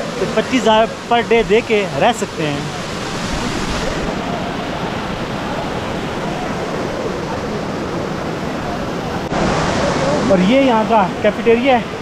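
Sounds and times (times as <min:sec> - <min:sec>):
faint voices: 0:00.0 - 0:10.4
waterfall rushing: 0:00.0 - 0:12.0.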